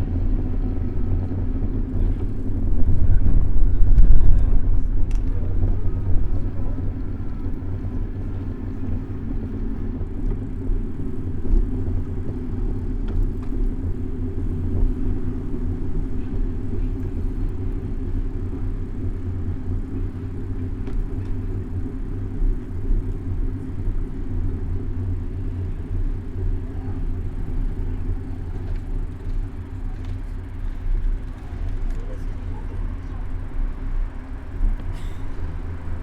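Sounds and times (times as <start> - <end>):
city traffic: 0.0 - 36.0
wind and road rumble: 0.0 - 36.0.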